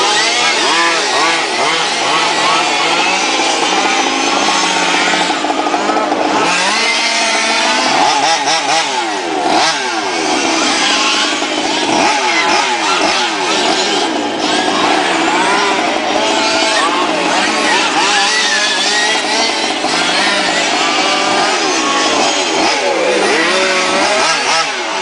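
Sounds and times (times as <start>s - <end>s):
model race car motors revving: 0.0s - 25.0s.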